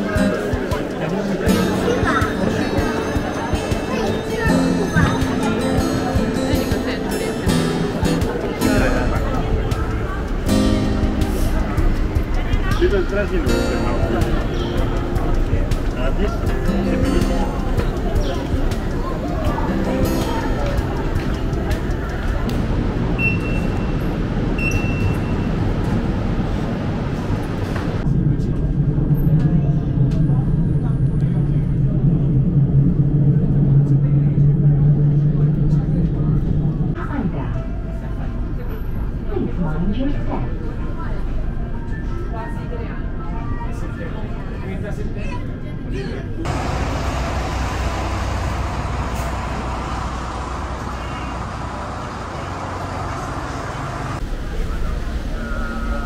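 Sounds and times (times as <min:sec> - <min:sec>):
train rumbling: 0:00.0 - 0:39.2, 0:46.3 - 0:56.0
road noise: 0:00.0 - 0:42.2, 0:43.8 - 0:56.0.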